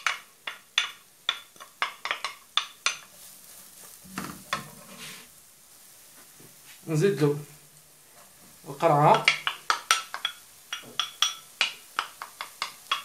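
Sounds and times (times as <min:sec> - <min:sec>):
onion sizzling in a pan: 0:00.0 - 0:13.0.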